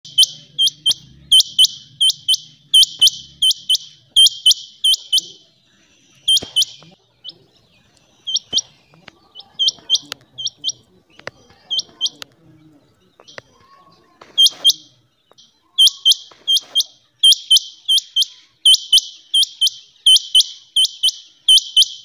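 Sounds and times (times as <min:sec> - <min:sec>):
quail whistled calls: 0:00.1 - 0:12.2, 0:14.2 - 0:15.0, 0:15.8 - 0:22.0.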